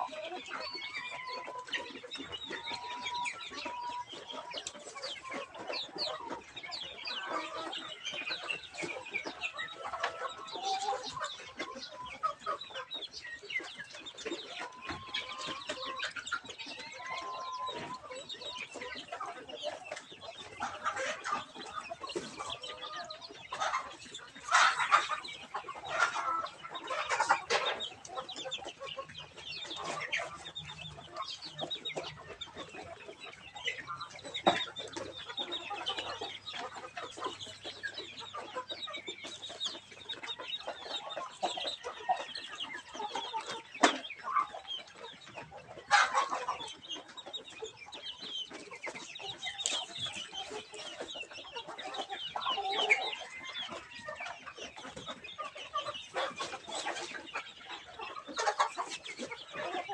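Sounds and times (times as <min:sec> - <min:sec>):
chickens clucking and chirping: 0:00.0 - 0:59.9.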